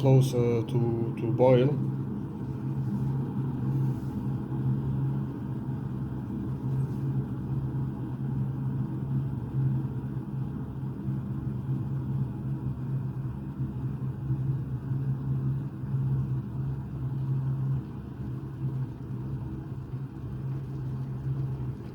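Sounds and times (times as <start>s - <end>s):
kettle water rumbling: 0.0s - 21.9s.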